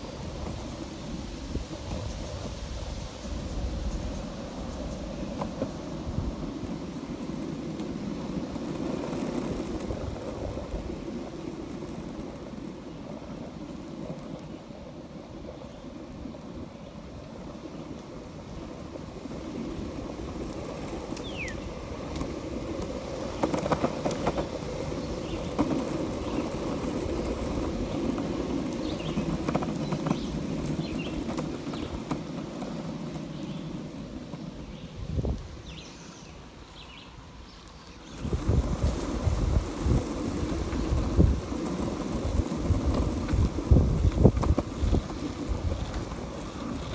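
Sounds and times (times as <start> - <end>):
skateboard wheels rumbling on asphalt: 0.0 - 46.9.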